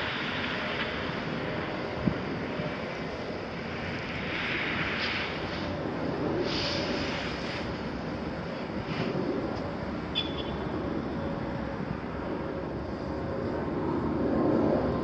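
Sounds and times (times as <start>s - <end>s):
heavy diesel engines rumbling: 0.0s - 15.0s.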